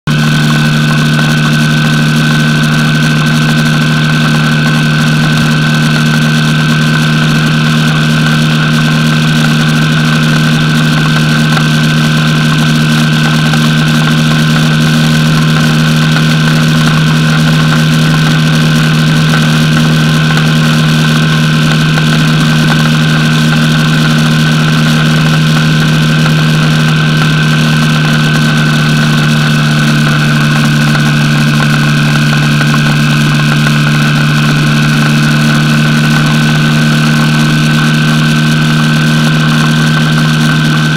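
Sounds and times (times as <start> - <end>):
motorcycle engine running: 0.0 - 40.9
wind and road noise: 0.1 - 40.9.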